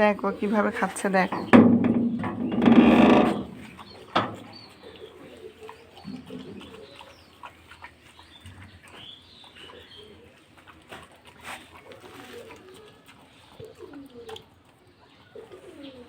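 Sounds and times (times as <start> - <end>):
pigeons cooing: 0.0 - 16.0
small birds chirping: 0.0 - 16.0.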